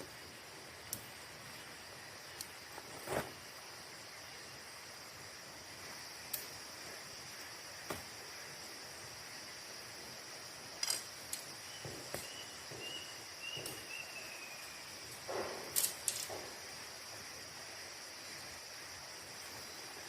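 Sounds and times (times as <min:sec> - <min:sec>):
crickets trilling: 0:00.0 - 0:20.0
rustle: 0:00.0 - 0:20.0.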